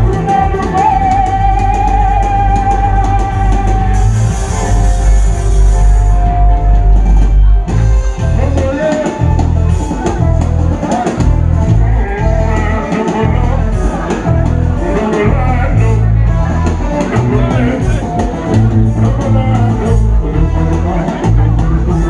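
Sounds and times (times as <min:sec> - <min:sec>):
person singing: 0:00.0 - 0:07.5, 0:08.2 - 0:22.0
drums: 0:00.0 - 0:22.0
electric guitar: 0:00.0 - 0:22.0
live band music heavy bass: 0:00.0 - 0:22.0.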